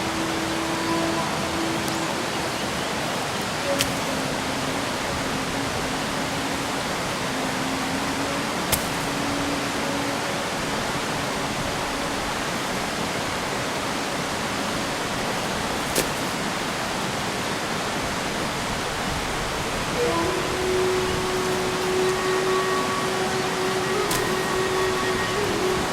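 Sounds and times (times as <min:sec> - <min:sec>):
rushing hiss: 0:00.0 - 0:25.9.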